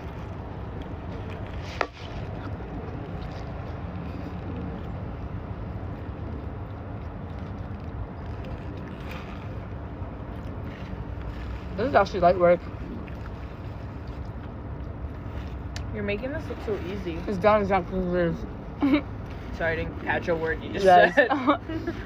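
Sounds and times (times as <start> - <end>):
low even hum: 0.0 - 22.0.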